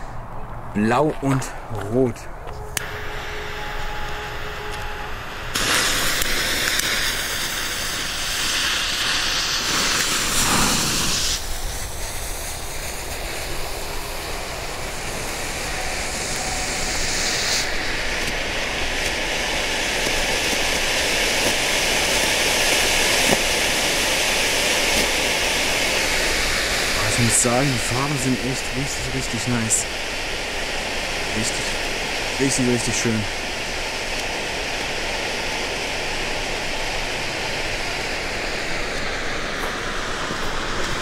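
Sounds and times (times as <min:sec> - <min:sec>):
smoke fountains hissing: 0:02.8 - 0:41.0.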